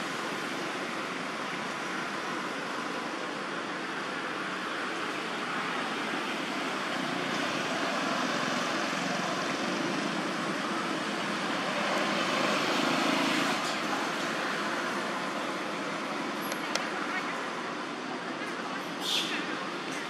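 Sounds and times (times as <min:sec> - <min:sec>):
steady outdoor rush: 0:00.0 - 0:20.0.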